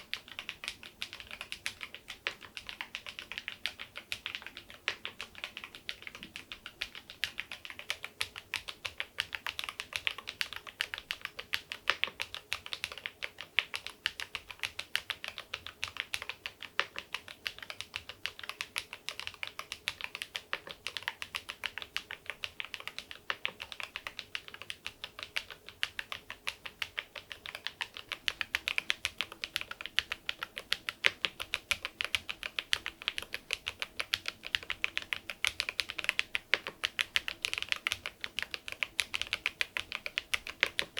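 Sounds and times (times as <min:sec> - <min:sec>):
keyboard keystroke clacks: 0:00.0 - 0:40.9.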